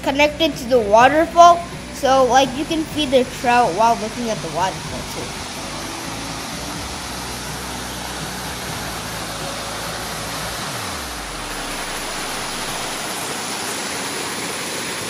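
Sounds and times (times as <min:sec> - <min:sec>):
low engine hum: 0:00.0 - 0:14.3
waterfall rushing: 0:00.0 - 0:15.0.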